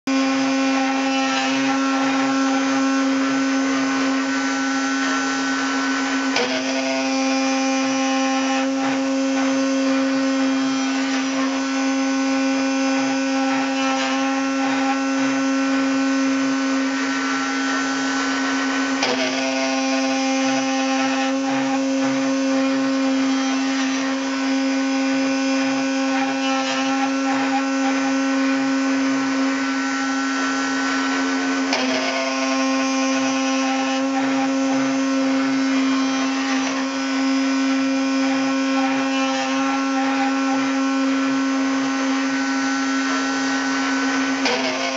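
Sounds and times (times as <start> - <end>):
router spindle whine: 0.0 - 44.9.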